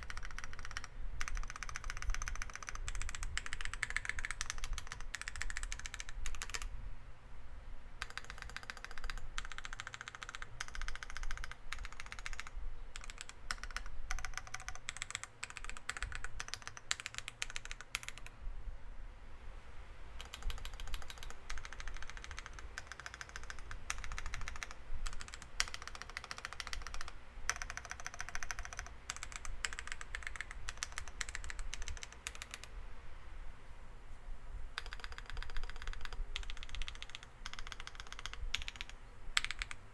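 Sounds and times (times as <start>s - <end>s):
mechanical keyboard key clacks: 0.0s - 6.7s, 8.0s - 18.3s, 20.2s - 32.7s, 34.8s - 39.9s.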